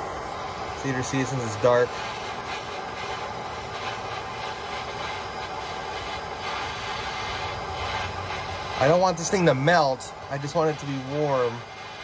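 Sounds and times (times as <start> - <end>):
blowtorch hissing: 0.0 - 12.0.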